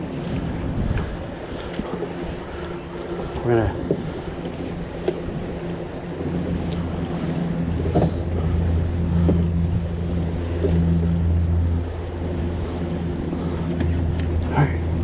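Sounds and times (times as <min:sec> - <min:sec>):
water rushing along hull: 0:00.0 - 0:15.0
wind on microphone: 0:00.0 - 0:15.0.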